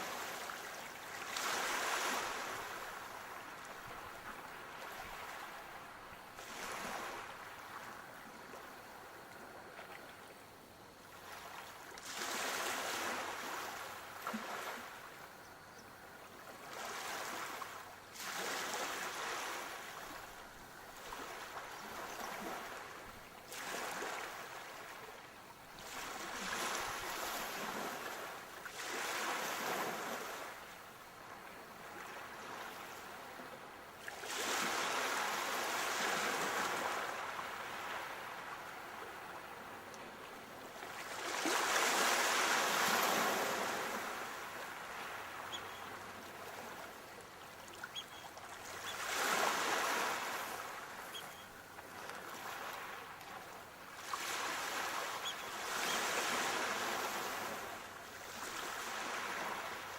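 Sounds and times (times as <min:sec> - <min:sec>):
sea waves breaking: 0:00.0 - 0:09.0, 0:11.1 - 0:15.3, 0:16.6 - 0:25.2, 0:25.8 - 0:30.7, 0:34.0 - 0:59.9.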